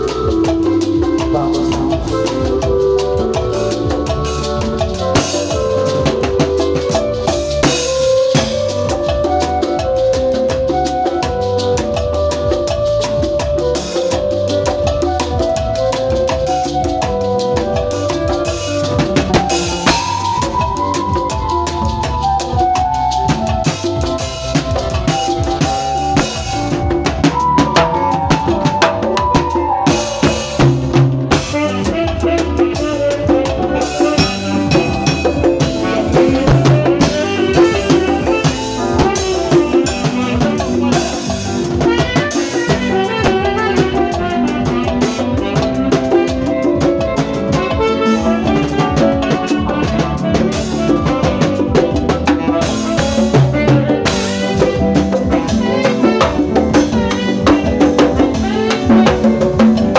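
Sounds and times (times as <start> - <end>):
live band playing dance music: 0.0 - 59.9.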